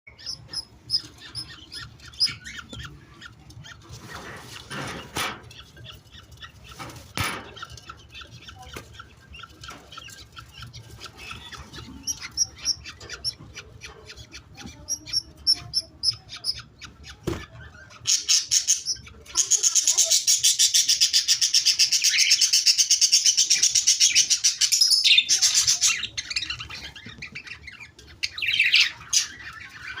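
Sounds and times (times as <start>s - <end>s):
budgerigar chicks calling: 0.1s - 30.0s.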